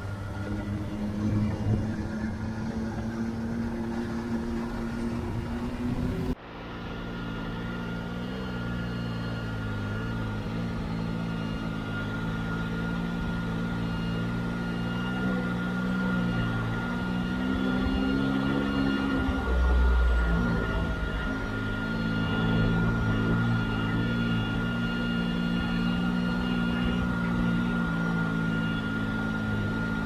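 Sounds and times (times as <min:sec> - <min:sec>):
off-road vehicle engine running: 0:00.0 - 0:30.0
wavering engine drone: 0:00.0 - 0:30.0.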